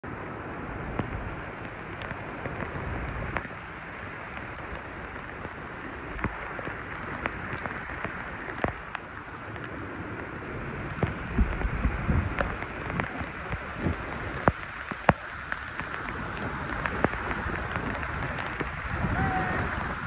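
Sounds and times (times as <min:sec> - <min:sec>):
rain hissing: 0:00.1 - 0:20.0
tyres on wet road: 0:00.1 - 0:20.0
raindrops ticking: 0:00.7 - 0:20.0.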